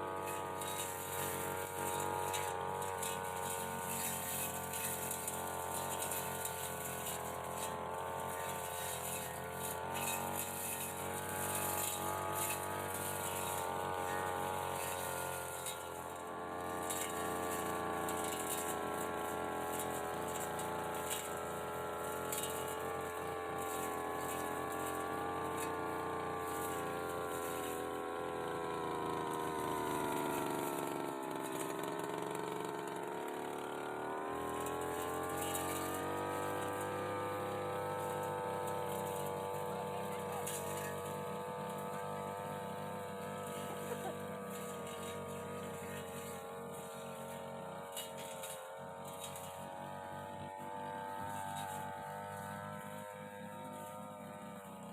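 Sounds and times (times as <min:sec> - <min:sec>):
brush cutter engine cutting hedge: 0:00.0 - 0:54.9.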